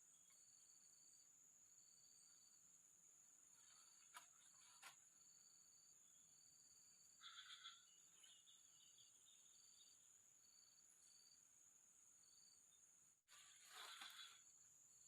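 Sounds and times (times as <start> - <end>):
insect buzzing and chirping: 0.0 - 15.0.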